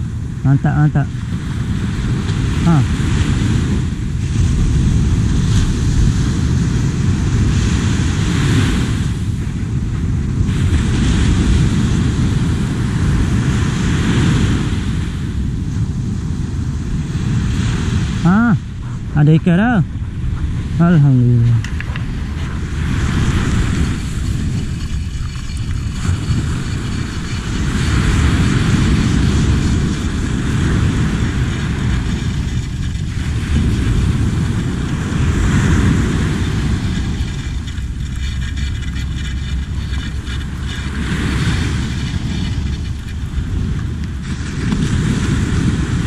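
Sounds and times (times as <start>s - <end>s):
small waves breaking on beach: 0.0s - 46.0s
wind buffeting microphone: 0.0s - 46.0s.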